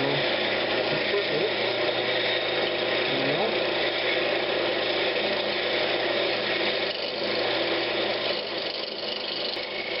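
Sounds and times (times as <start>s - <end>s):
wood lathe motor humming: 0.0s - 10.0s.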